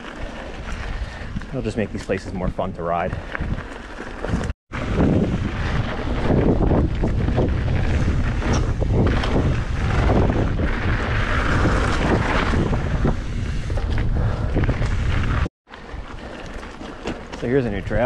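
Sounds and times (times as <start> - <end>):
wind buffeting microphone: 0.0 - 16.6
tyres rolling on dirt: 0.0 - 18.0
bike knocks and rattles: 3.1 - 18.0.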